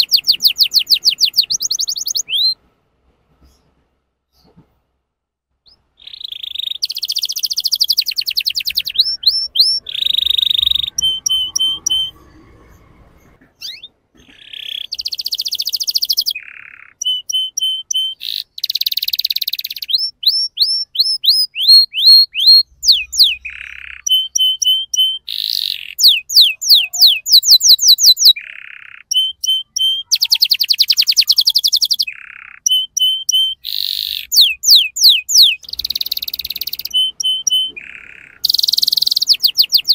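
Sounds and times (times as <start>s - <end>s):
canary singing trills: 0.0s - 2.6s, 5.6s - 39.9s.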